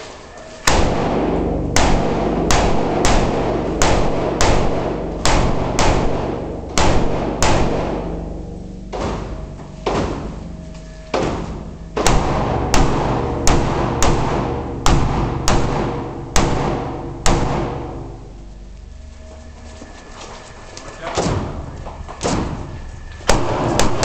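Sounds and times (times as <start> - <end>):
rifle shots echoing indoors: 0.5 - 18.5, 21.1 - 24.0.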